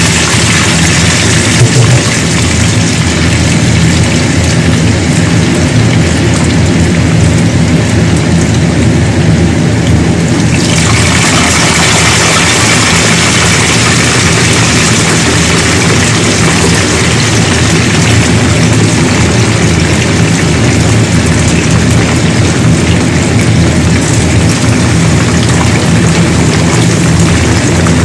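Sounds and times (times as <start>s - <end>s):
food sizzling in hot oil: 0.0s - 28.0s
steady low hum: 0.0s - 28.0s.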